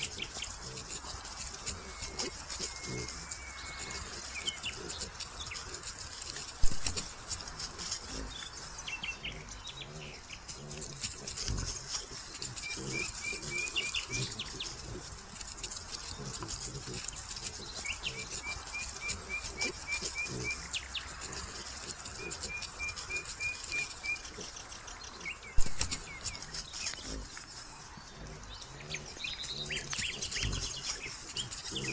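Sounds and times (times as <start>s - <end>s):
faint rustling: 0.0s - 31.9s.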